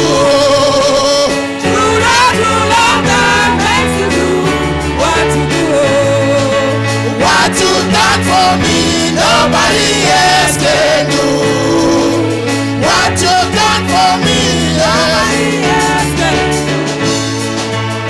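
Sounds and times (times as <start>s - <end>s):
voices singing: 0.0s - 17.2s
band with bass and drums: 0.0s - 18.0s.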